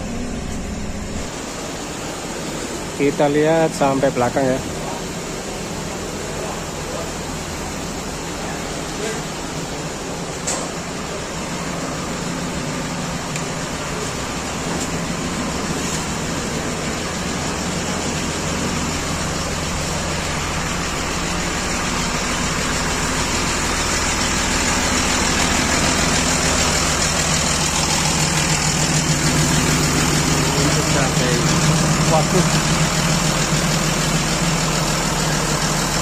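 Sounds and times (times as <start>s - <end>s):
bus diesel engine idling: 0.0s - 36.0s.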